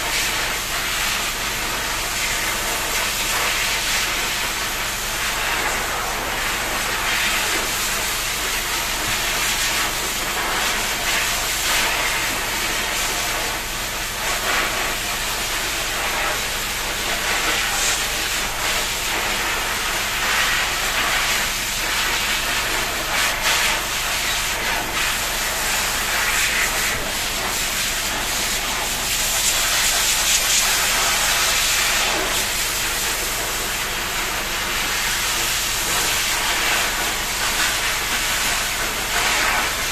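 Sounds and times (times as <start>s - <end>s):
water spraying from shower head: 0.0s - 39.9s.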